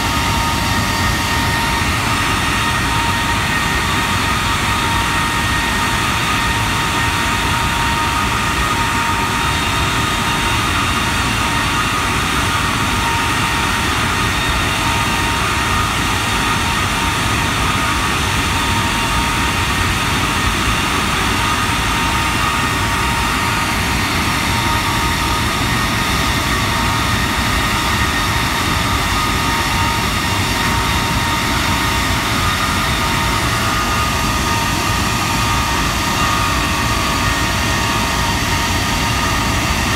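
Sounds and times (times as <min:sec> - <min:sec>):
jet engine roaring at high power: 0:00.0 - 0:39.9
jet engine whining tones: 0:00.0 - 0:39.9.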